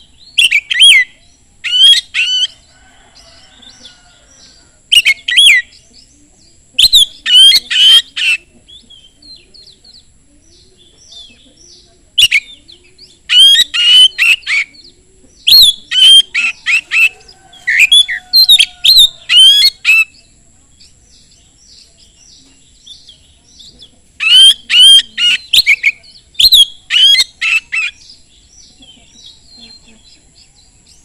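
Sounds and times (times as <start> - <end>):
bird singing whistled notes: 0.0 - 2.5, 4.9 - 6.2, 6.8 - 31.0
faint bird chirps: 0.0 - 31.0.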